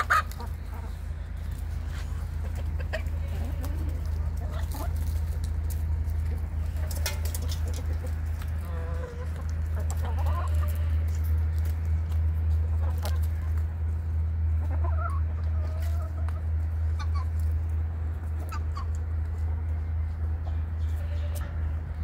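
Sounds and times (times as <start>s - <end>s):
hens clucking: 0.0s - 22.0s
steady low hum: 0.0s - 22.0s.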